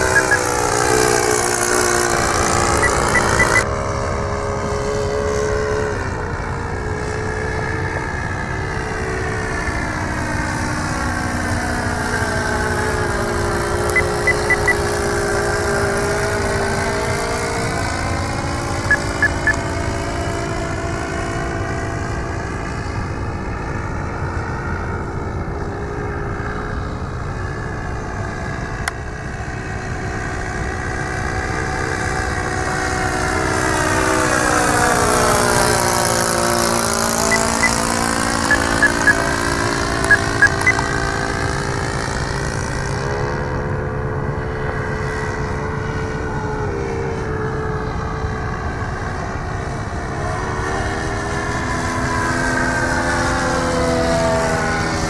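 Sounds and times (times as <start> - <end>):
propeller plane flying past: 0.0 - 55.0.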